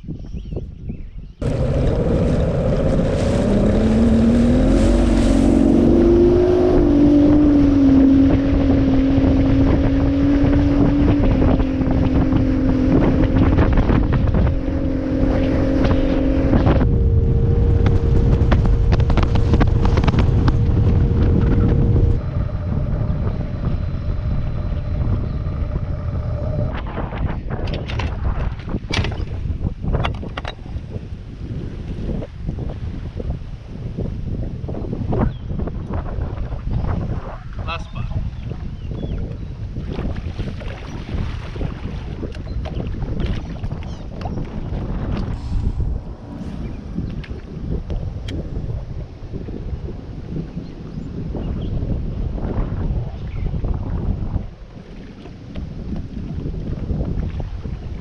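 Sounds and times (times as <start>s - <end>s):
wind on microphone: 0.0s - 58.0s
outboard motor running: 1.4s - 33.3s, 34.2s - 58.0s.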